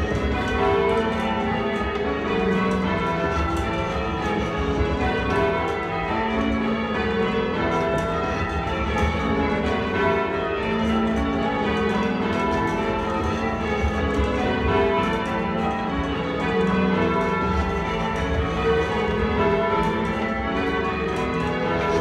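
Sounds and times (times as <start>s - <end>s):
church bells ringing in changes: 0.0s - 22.0s.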